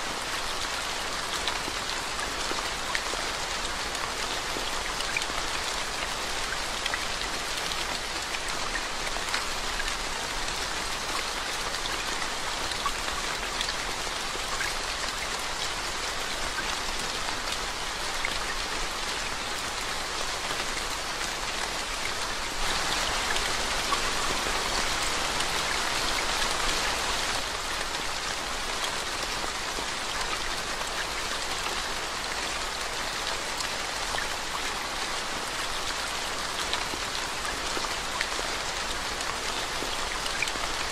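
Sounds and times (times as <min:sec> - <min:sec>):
rain falling on road: 0:00.0 - 0:40.9.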